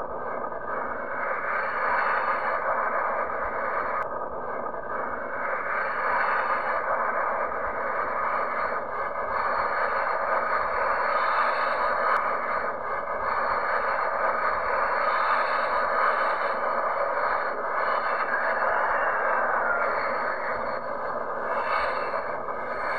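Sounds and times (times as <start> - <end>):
jet engines at takeoff: 0.0 - 22.9.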